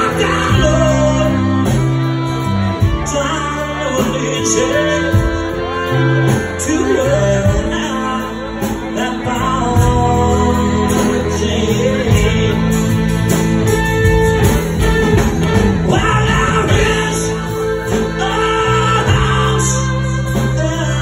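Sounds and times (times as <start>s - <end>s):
acoustic guitar: 0.0s - 21.0s
electric bass: 0.0s - 21.0s
fiddle: 0.0s - 21.0s
man singing: 0.0s - 21.0s.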